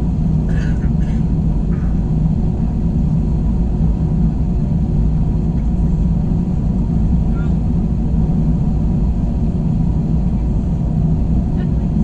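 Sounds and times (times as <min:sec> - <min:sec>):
airplane cabin drone: 0:00.0 - 0:12.0.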